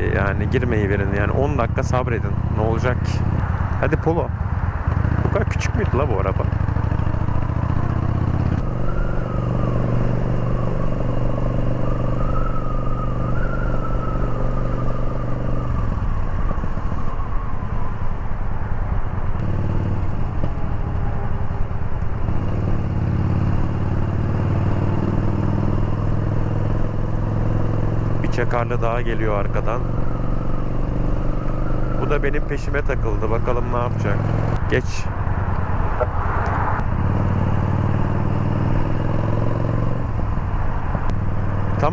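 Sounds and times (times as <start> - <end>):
motorcycle engine running: 0.0 - 17.0, 19.2 - 41.9.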